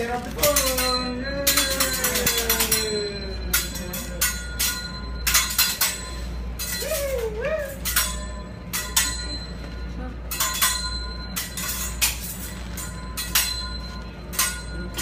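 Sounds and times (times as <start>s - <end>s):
steady low hum: 0.0s - 15.0s
metal utensils clanking on griddle: 0.3s - 9.6s, 10.3s - 15.0s.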